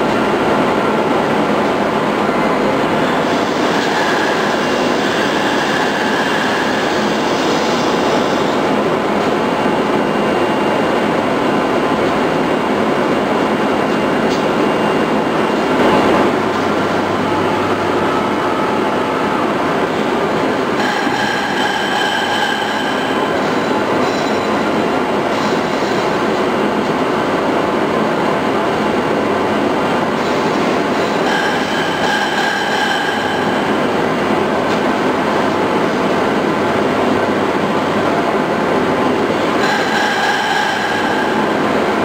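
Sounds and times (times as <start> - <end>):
machine whine: 0.1 - 42.0
cnc router mechanical noise: 2.5 - 42.0.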